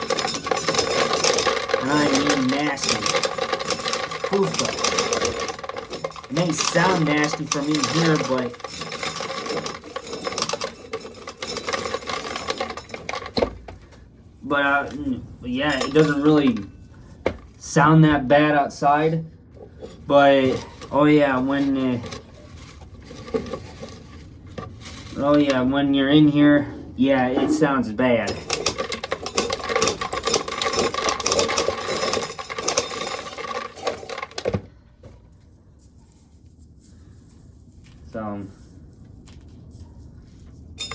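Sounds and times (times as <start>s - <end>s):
walls and roof rattling: 0.0s - 18.3s, 19.4s - 35.4s.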